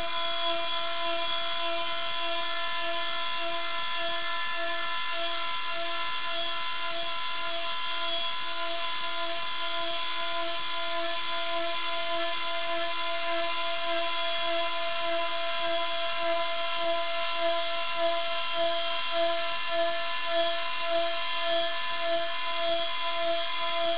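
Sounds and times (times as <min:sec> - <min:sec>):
router spindle whining: 0:00.0 - 0:23.9.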